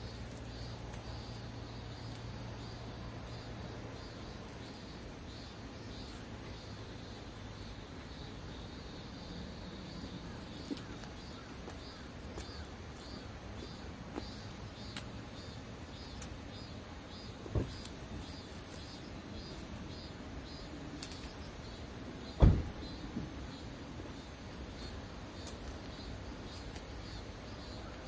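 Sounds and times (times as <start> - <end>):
insects chirping in pulses: 0.0 - 28.0.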